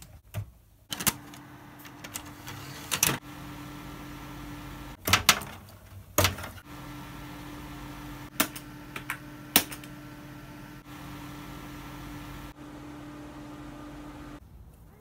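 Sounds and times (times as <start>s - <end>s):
desktop computer hum: 0.9s - 5.3s, 6.2s - 14.4s.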